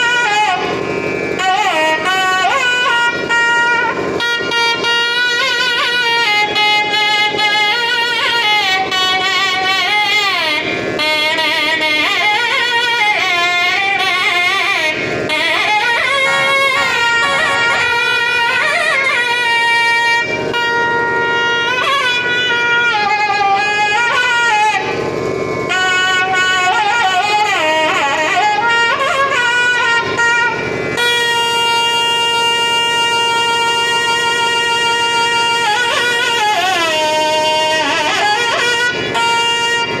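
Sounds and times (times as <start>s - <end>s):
double-reed pipes playing ornamented melody: 0.0s - 25.1s, 25.7s - 40.0s.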